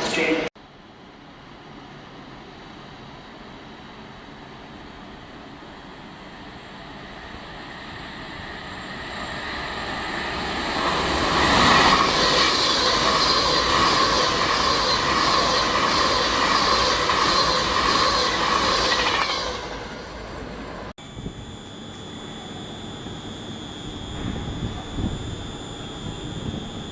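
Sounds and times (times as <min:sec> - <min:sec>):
train passing with high whine: 0:00.0 - 0:26.9.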